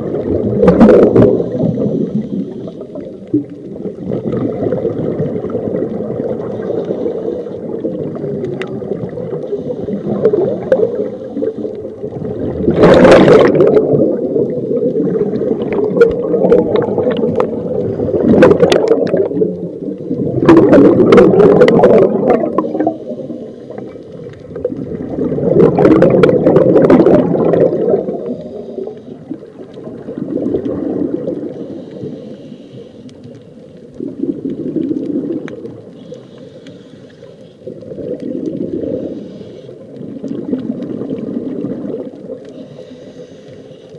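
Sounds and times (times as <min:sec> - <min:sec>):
regulator exhaled bubbles rushing: 0:00.0 - 0:31.5, 0:34.0 - 0:35.9, 0:37.7 - 0:39.1, 0:40.0 - 0:42.4
low underwater rumble: 0:00.0 - 0:43.7.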